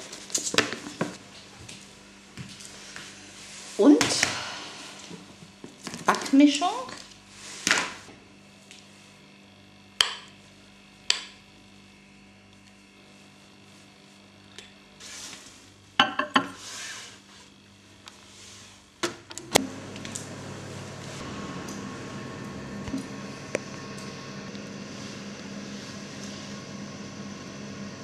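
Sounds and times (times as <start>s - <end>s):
microwave oven humming: 0.0s - 28.0s.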